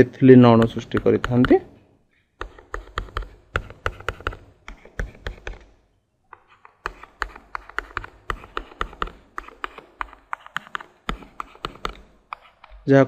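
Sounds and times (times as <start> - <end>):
stylus tapping on tablet: 0.5 - 1.8, 2.4 - 12.8.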